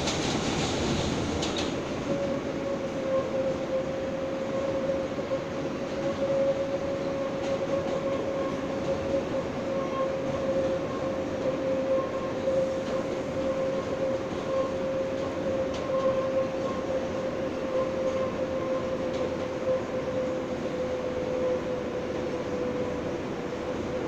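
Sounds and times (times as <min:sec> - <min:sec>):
subway wheel and track rumble: 0:00.0 - 0:24.0.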